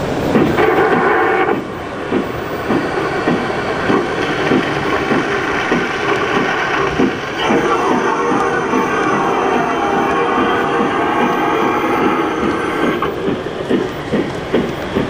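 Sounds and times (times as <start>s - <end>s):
model steam locomotive chuffing: 0.0s - 15.0s
steady steam hiss: 0.0s - 15.0s.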